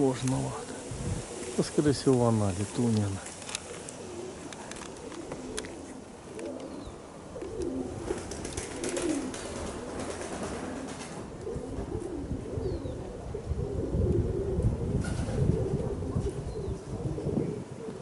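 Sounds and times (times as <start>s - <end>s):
wind rumbling on microphone: 0.0s - 3.5s, 6.8s - 18.0s
pigeons cooing: 0.0s - 18.0s.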